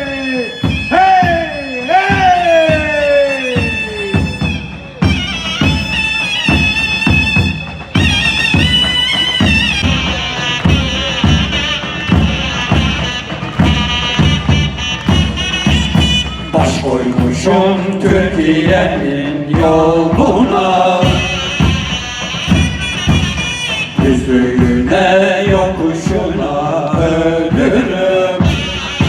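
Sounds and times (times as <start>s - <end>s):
reed wind instrument melody: 0.0s - 29.0s
drum beat: 0.6s - 29.0s.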